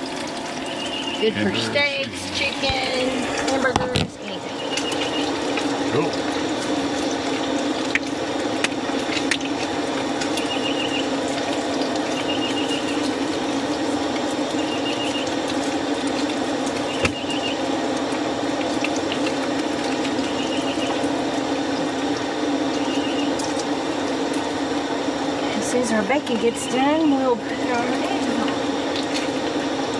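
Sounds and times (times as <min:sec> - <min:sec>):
bacon sizzling in a pan: 0:00.0 - 0:29.9.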